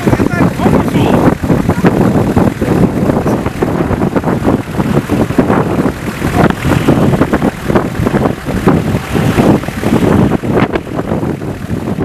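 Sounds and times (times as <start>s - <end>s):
lava fountain rushing: 0.0s - 12.0s
lava spatter bursts: 0.0s - 12.0s.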